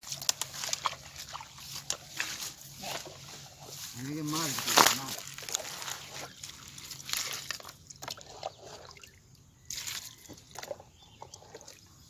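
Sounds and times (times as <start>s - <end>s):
muddy water splashing: 0.0s - 12.0s.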